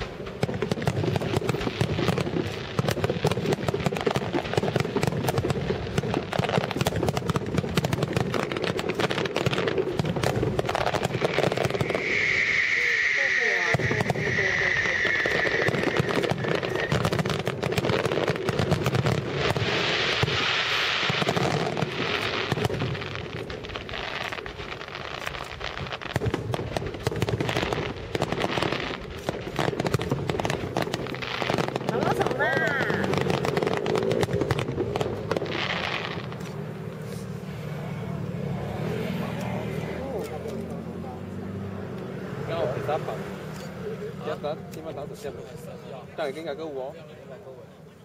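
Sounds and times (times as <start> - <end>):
fireworks crackling and popping: 0.0 - 48.0.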